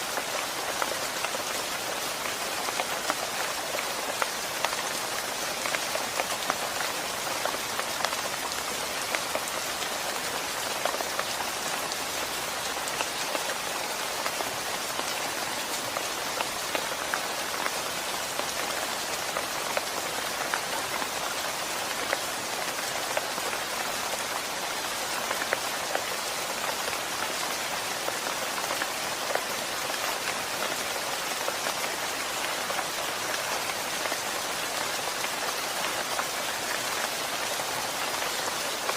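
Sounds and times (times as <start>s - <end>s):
steady rain hiss: 0.0s - 38.9s
raindrops ticking on hard surface: 0.1s - 38.9s.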